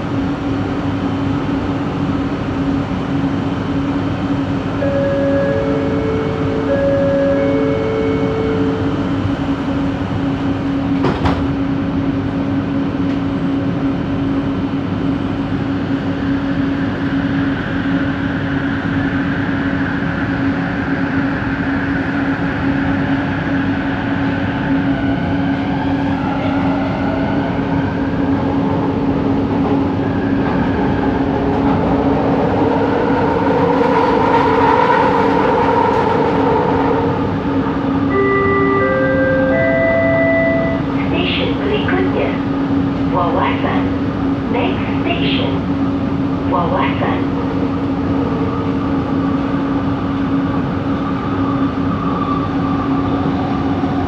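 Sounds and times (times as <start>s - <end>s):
train rumble inside coach: 0.0s - 54.0s.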